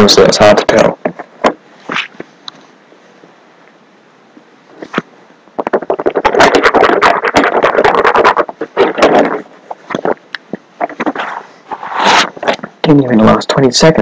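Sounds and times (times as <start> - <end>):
microphone handling noise: 0.6 - 3.4, 4.3 - 12.8.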